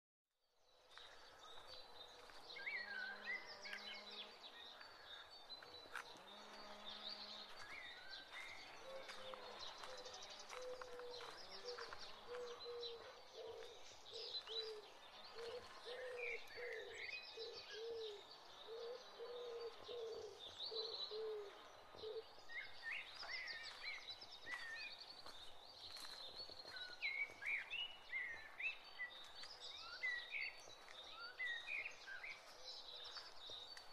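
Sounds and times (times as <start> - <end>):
birds chirping and calling: 1.0 - 33.9.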